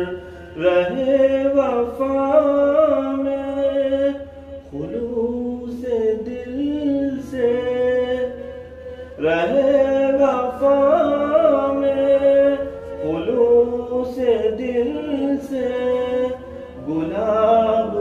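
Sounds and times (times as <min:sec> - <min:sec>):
man singing slowly: 0:00.0 - 0:18.0.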